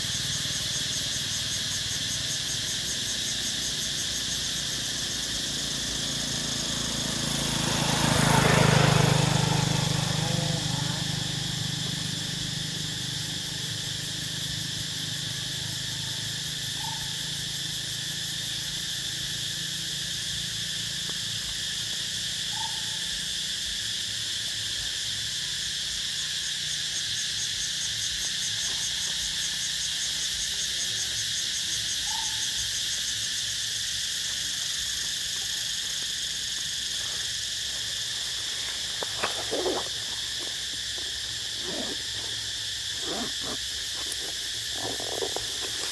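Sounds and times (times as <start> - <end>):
insects buzzing and shrilling: 0.0 - 45.9.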